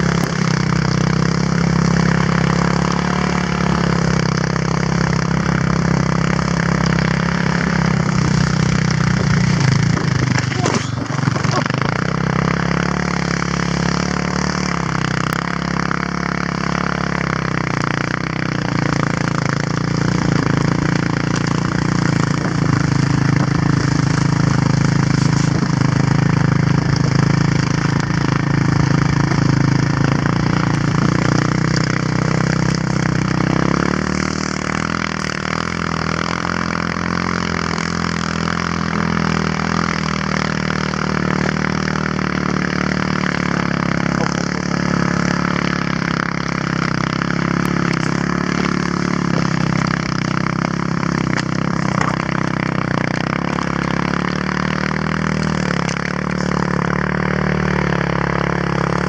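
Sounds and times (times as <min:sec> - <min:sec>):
quad engine running: 0:00.0 - 0:59.0
sled sliding on snow: 0:00.0 - 0:59.0.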